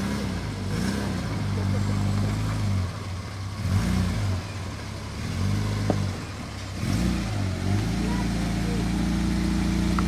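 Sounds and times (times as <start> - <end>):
truck engine under load: 0.0 - 10.0.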